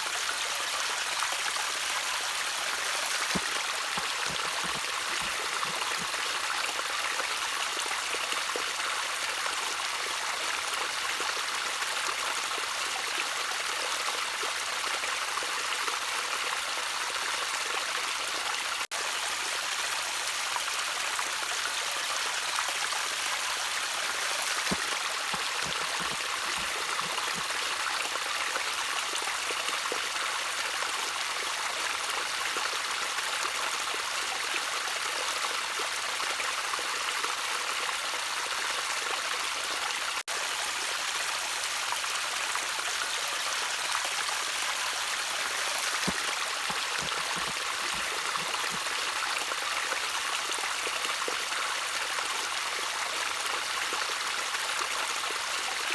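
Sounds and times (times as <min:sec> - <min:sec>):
stream water trickling: 0:00.0 - 0:55.9.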